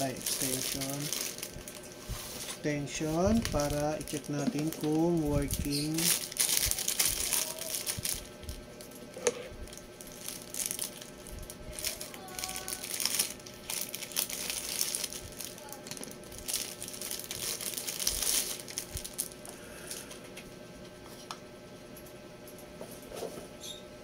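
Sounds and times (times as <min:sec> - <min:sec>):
plastic bag crinkling: 0:00.0 - 0:19.5.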